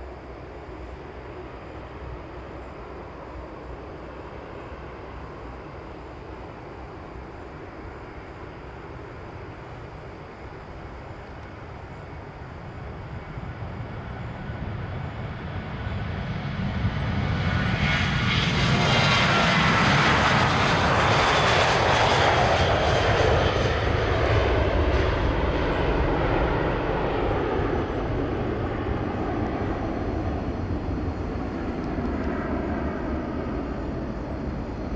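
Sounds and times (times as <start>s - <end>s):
jet engines at takeoff: 0.0s - 34.9s.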